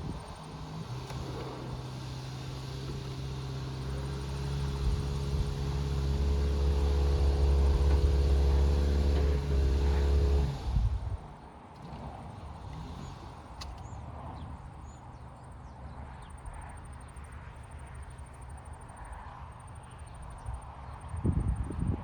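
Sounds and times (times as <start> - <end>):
vehicle engine running: 0.0 - 21.1.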